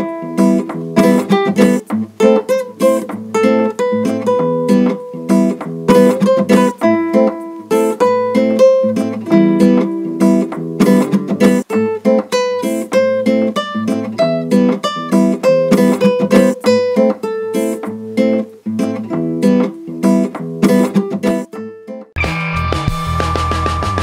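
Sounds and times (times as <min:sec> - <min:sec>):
plucked acoustic guitar: 0:00.0 - 0:22.4
fuller music track: 0:00.0 - 0:24.0.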